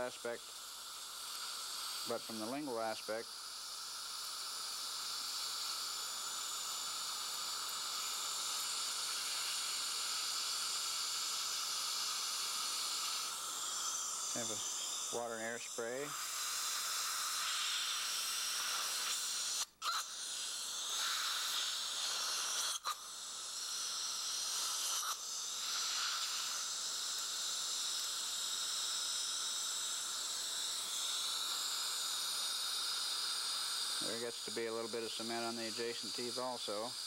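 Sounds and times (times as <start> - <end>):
dental air-water syringe hiss: 0.0 - 37.0
dental suction drawing water: 0.0 - 37.0.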